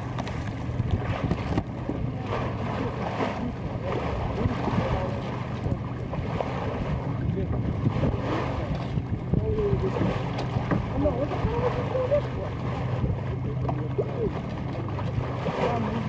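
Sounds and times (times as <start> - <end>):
water washing along hull: 0.0 - 16.0
wind buffeting microphone: 0.0 - 16.0.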